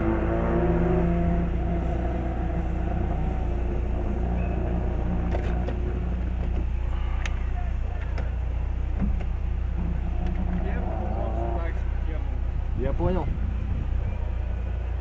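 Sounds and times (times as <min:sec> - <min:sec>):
truck engine idling: 0:01.4 - 0:15.0.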